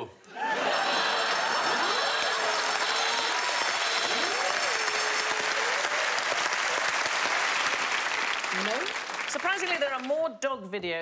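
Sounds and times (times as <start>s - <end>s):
audience applauding: 0.4s - 10.2s.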